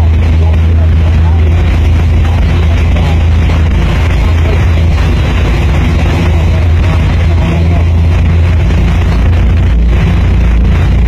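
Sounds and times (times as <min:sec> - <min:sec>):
bus engine running: 0:00.0 - 0:11.0
water rushing and splashing: 0:00.0 - 0:11.0.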